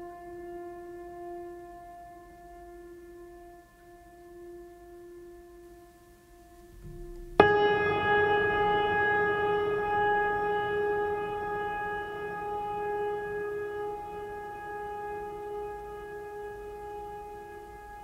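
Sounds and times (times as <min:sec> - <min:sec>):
instrumental music with held notes: 0:00.0 - 0:18.0.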